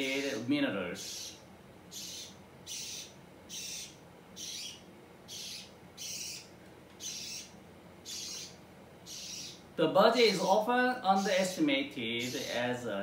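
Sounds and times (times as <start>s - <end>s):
budgerigar chirping: 0.0s - 9.7s, 11.1s - 11.5s, 12.2s - 12.7s.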